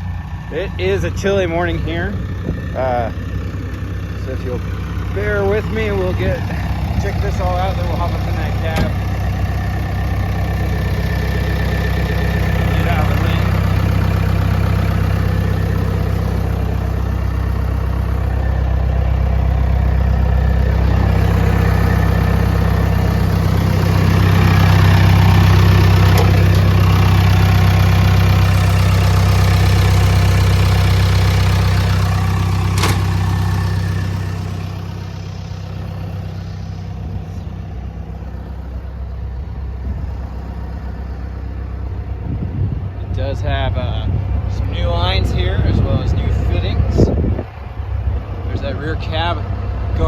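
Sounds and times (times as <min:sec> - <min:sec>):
bulldozer diesel engine idling: 0:00.0 - 0:50.0.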